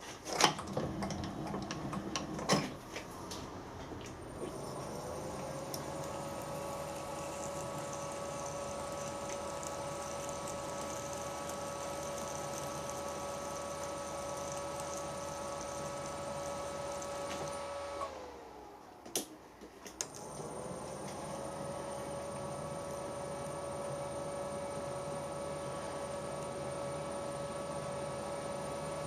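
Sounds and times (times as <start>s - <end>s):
milling machine motor hum: 0.5s - 19.0s, 20.1s - 29.0s.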